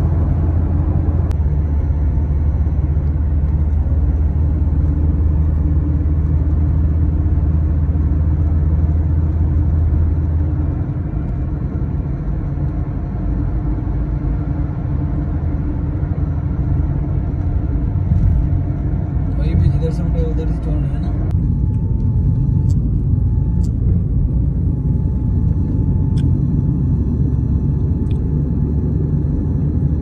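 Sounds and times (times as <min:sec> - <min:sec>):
deep drone: 0:00.0 - 0:30.0
road and engine rumble in car: 0:00.0 - 0:30.0.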